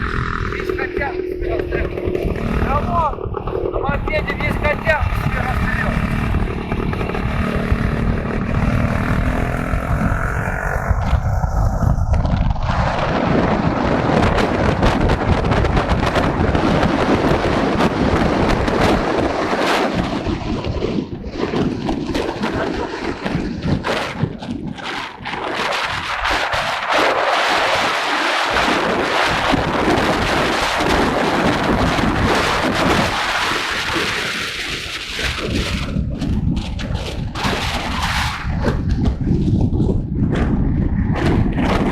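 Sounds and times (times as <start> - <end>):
motorcycle engine running: 0.0 - 25.2, 28.2 - 37.9
wind buffeting microphone: 0.0 - 41.9.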